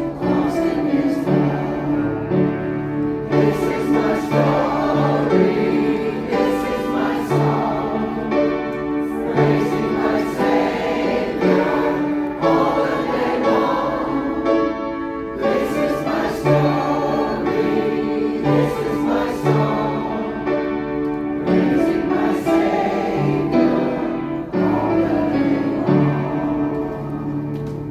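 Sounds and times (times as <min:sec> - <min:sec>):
choir singing: 0:00.0 - 0:27.9.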